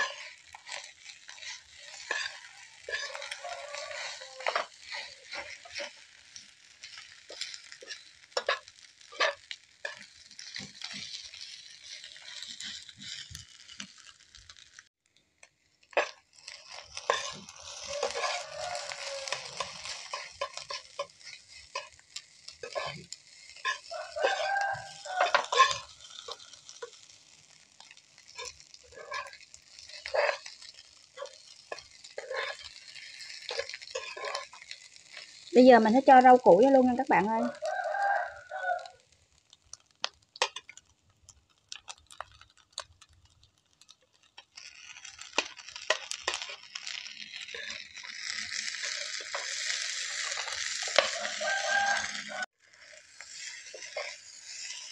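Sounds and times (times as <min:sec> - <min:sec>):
spatula scraping on pan: 0:00.0 - 0:14.8, 0:15.8 - 0:38.9, 0:40.4 - 0:40.8, 0:43.8 - 0:54.9
rice sizzling in frying pan: 0:00.0 - 0:54.9.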